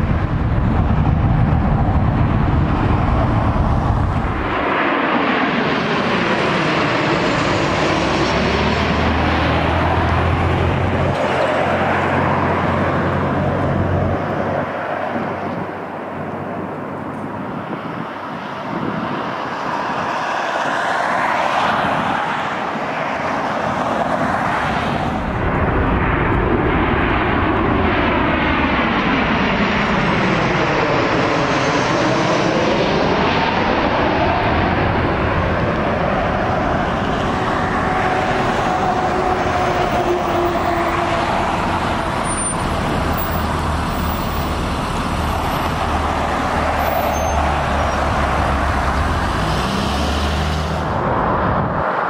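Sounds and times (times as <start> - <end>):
jet airliners landing: 0.0 - 52.0.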